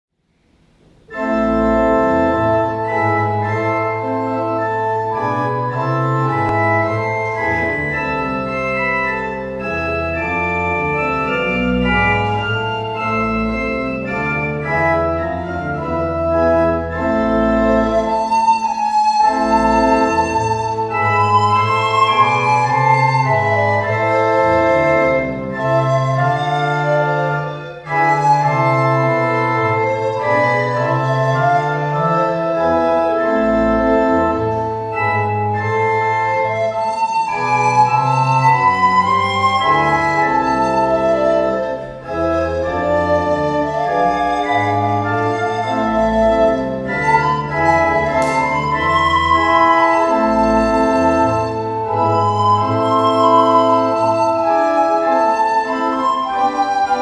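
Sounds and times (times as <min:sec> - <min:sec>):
church organ chords: 0:00.4 - 0:57.0.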